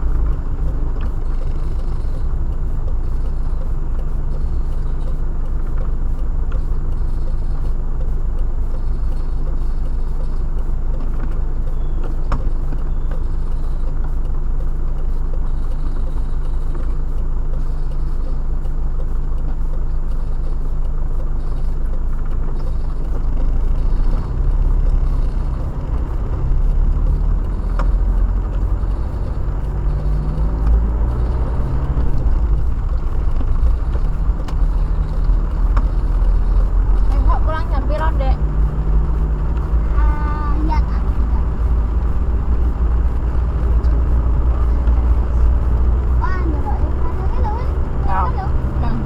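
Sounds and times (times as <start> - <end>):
car engine and road noise: 0.0 - 49.0
engine accelerating: 0.0 - 49.0.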